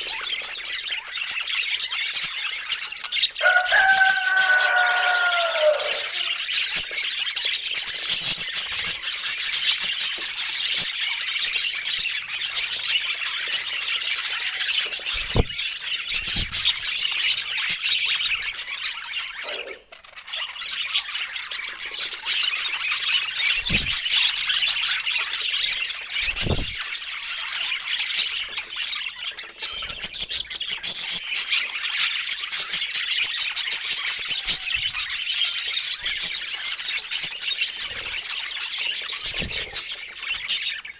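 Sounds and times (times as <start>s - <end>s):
budgerigar chatter: 0.0s - 40.9s.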